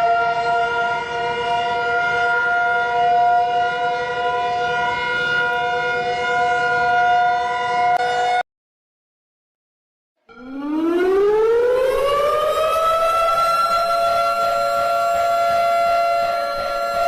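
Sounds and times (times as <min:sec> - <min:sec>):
emergency alert siren: 0:00.0 - 0:08.4, 0:10.3 - 0:17.0.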